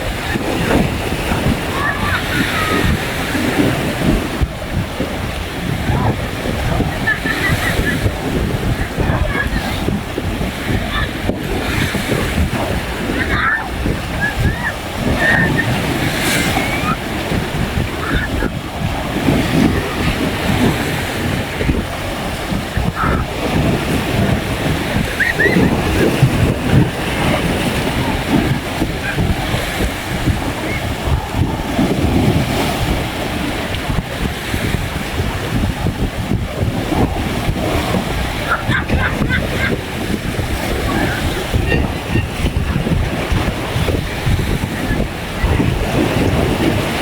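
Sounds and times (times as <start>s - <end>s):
sea surf washing onto beach: 0.0s - 47.0s
wind buffeting microphone: 0.0s - 47.0s.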